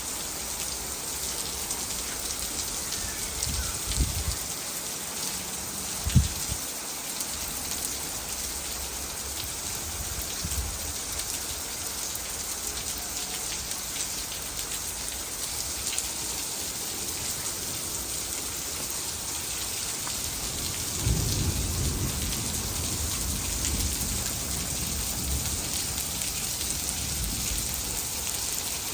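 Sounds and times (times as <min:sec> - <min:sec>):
rain pattering: 0:00.0 - 0:28.9.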